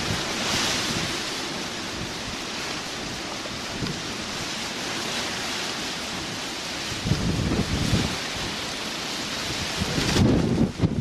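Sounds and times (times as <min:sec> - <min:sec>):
rain: 0:00.0 - 0:11.0
storm wind: 0:00.0 - 0:11.0.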